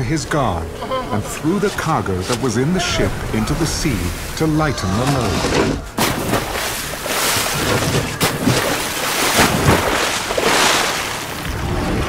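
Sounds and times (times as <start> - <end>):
crashing waves: 0.0 - 12.0
wind: 0.0 - 12.0.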